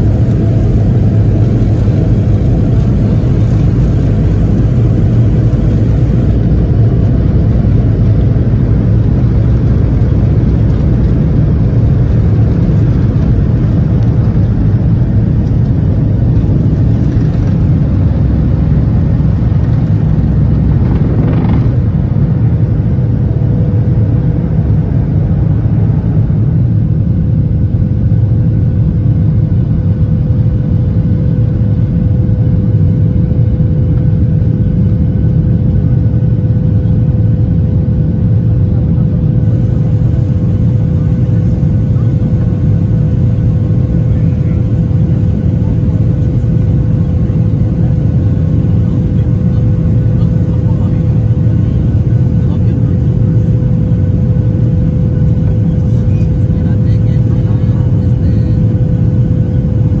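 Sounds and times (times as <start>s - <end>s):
jet engine drone: 0.0s - 60.0s
steady hum: 0.0s - 60.0s.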